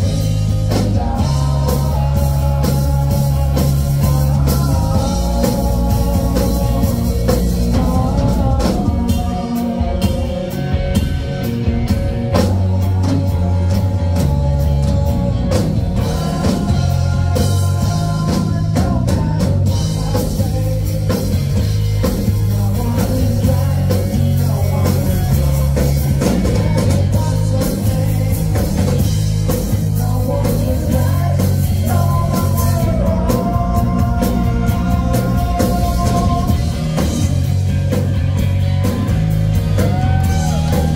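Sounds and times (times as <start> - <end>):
distorted electric guitars: 0.0 - 40.9
drum kit beat: 0.0 - 40.9.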